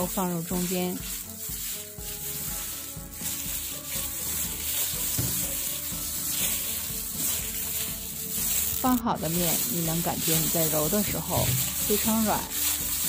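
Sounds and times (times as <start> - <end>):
dough kneading rubbing and crinkling: 0.0 - 13.0
quiet background music: 0.0 - 13.0.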